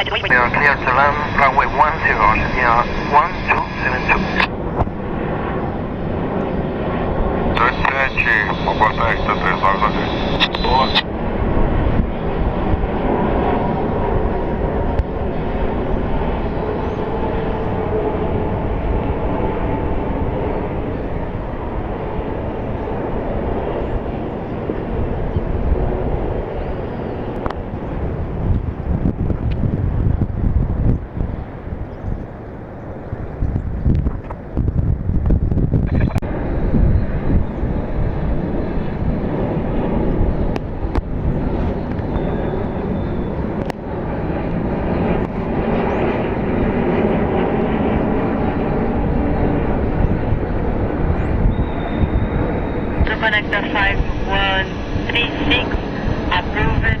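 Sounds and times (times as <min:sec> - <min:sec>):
jet engines rushing: 0:00.0 - 0:57.0.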